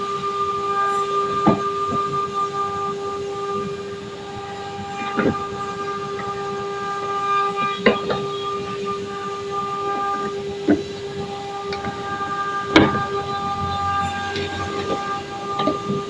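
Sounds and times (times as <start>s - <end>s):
router spindle whine: 0.0s - 16.0s.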